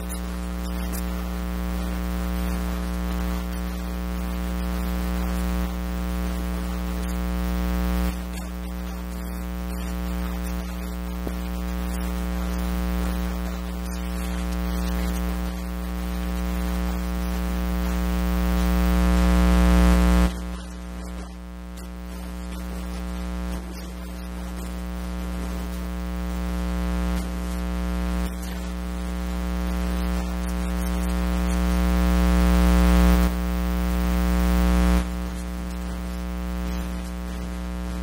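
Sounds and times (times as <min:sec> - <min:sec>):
electrical mains hum and buzz: 0:00.0 - 0:38.0
static hiss: 0:00.0 - 0:38.0.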